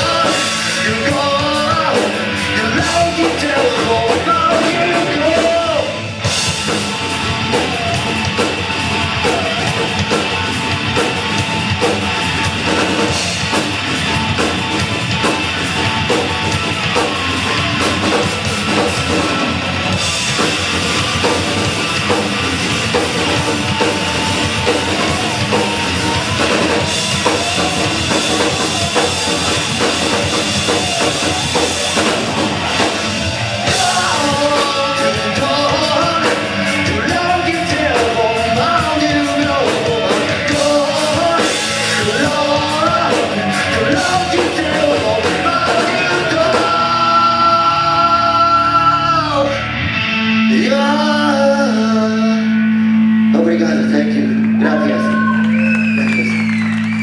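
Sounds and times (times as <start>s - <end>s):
drum kit: 0.0s - 51.2s
live rock band playing: 0.0s - 57.0s.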